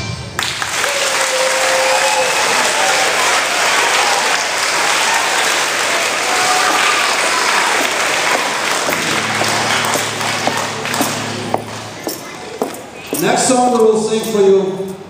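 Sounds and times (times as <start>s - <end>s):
audience applauding: 0.4s - 12.6s.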